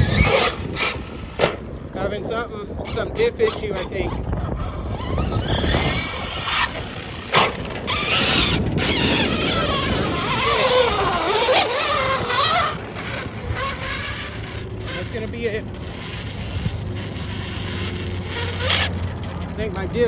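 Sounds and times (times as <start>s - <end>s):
electric motor whine: 0.0s - 20.0s
mechanical grinding and rattling: 0.0s - 20.0s.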